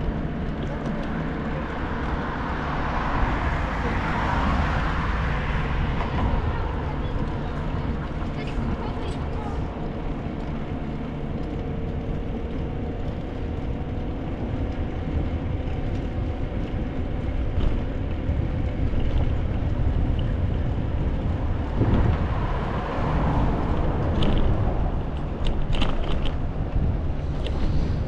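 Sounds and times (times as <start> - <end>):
bicycle tyres rumbling on bridge: 0.0 - 28.0
wind on microphone: 0.0 - 28.0.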